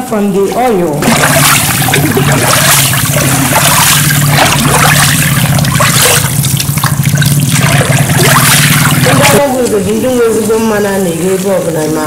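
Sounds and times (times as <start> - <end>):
low hum: 0.0 - 11.6
water sloshing and splashing: 0.0 - 12.0.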